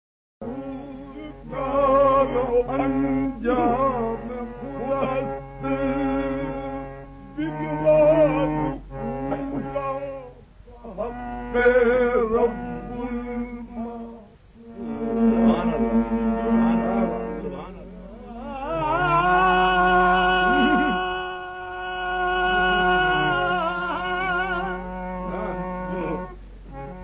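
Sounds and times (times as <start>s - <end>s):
harmonium notes: 0.4s - 27.0s
man singing ornamented melody: 0.4s - 27.0s.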